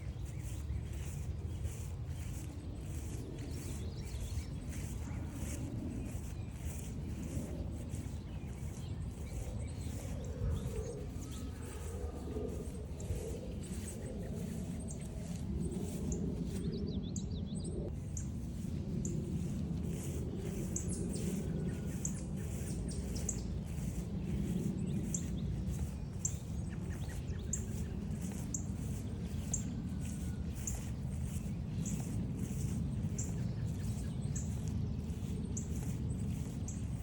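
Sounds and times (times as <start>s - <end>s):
walking footsteps: 0.0s - 16.8s, 17.9s - 37.0s
low outdoor rumble: 0.0s - 37.0s
small birds chirping: 0.0s - 37.0s.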